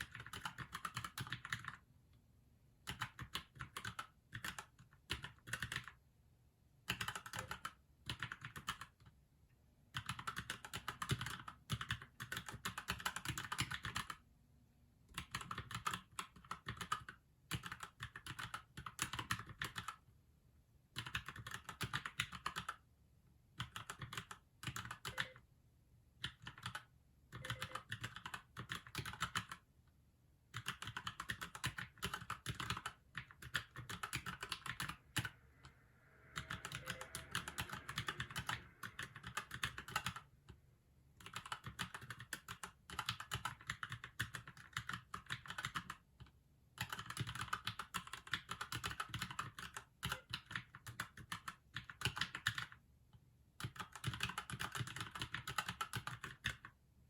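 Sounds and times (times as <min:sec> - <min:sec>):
fast typing on mechanical keyboard: 0:00.0 - 0:01.8, 0:02.8 - 0:06.0, 0:06.9 - 0:09.1, 0:09.9 - 0:14.2, 0:15.1 - 0:20.0, 0:20.9 - 0:22.8, 0:23.6 - 0:25.4, 0:26.2 - 0:29.7, 0:30.5 - 0:35.4, 0:36.4 - 0:40.3, 0:41.2 - 0:52.8, 0:53.6 - 0:56.8.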